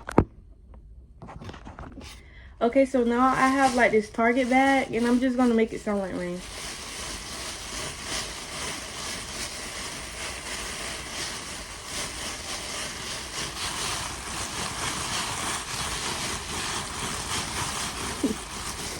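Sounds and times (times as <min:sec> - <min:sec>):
plastic bag crinkling: 0:02.0 - 0:18.9.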